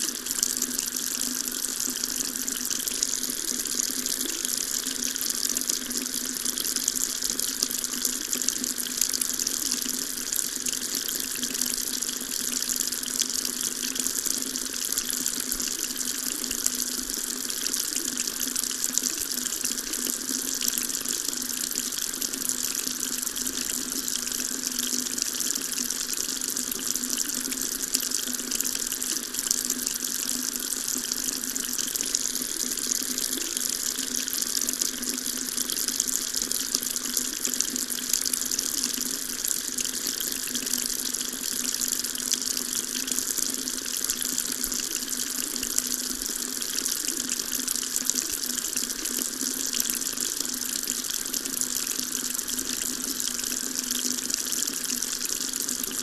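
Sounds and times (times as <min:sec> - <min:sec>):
water running from a tap: 0:00.0 - 0:56.0.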